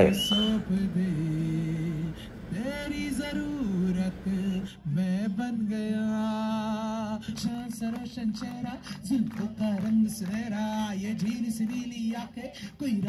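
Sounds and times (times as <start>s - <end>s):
acoustic guitar: 0.0s - 13.0s
man singing: 0.0s - 13.0s.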